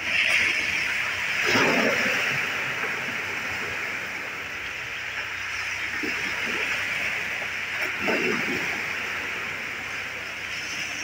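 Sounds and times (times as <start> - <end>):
sea waves on shore: 0.0 - 11.0.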